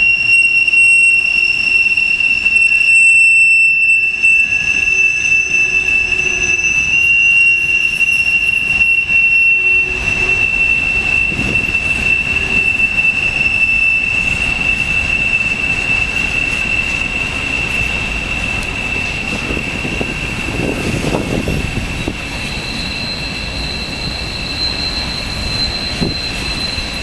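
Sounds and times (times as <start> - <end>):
high-pitched wheel squeal: 0.0 - 27.0
train wheels rumbling on rails: 4.0 - 27.0.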